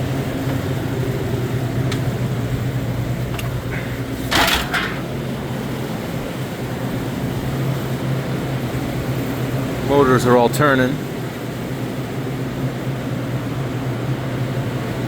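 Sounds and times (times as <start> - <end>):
compressors and fans humming: 0.0 - 15.0.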